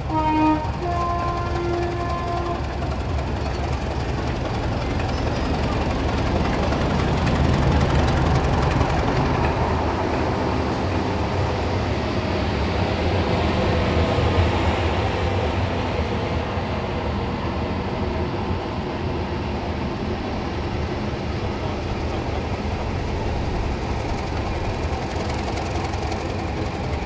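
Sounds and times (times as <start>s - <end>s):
diesel locomotive engine humming: 0.0s - 27.0s.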